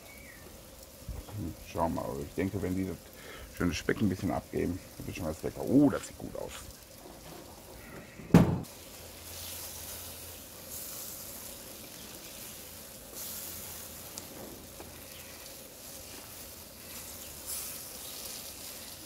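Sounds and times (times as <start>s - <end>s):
bacon sizzling: 0.0s - 19.0s.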